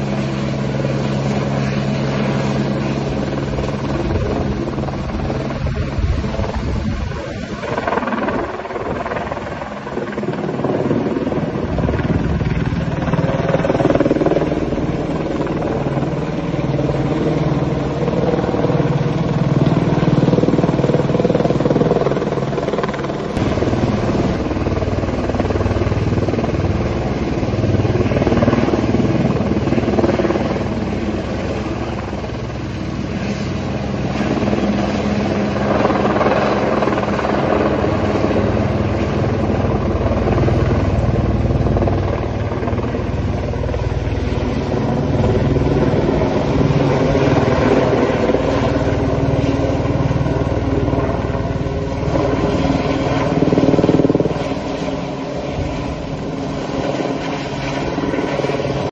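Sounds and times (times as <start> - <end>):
helicopter rotor beat: 0.0 - 58.9.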